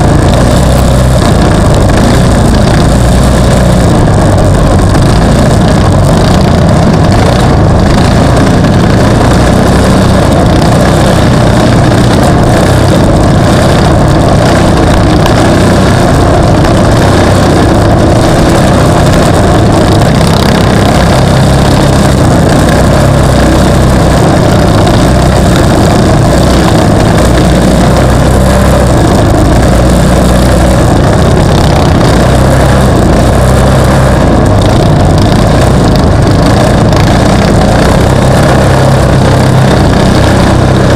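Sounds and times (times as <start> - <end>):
loud racing engine rumble: 0.0 - 40.9.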